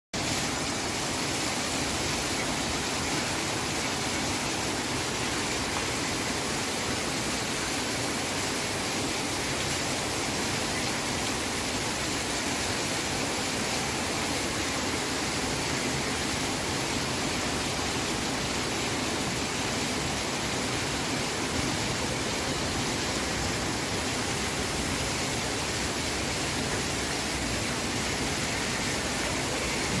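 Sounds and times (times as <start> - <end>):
steady rainfall: 0.2 - 30.0.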